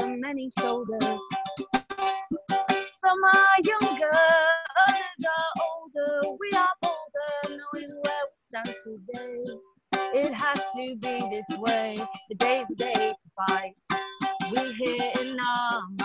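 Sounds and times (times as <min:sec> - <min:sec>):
woman singing: 0:00.0 - 0:01.5, 0:02.7 - 0:16.0
ukulele strumming: 0:00.0 - 0:16.0.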